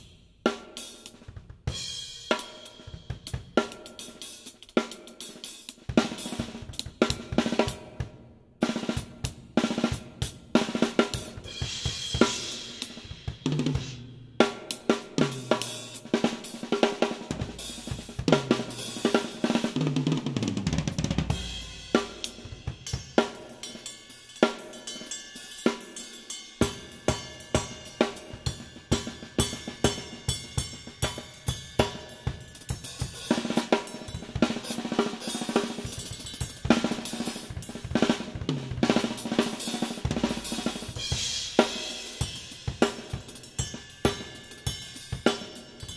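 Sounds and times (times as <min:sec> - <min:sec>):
drum kit groove: 0:00.0 - 0:45.9.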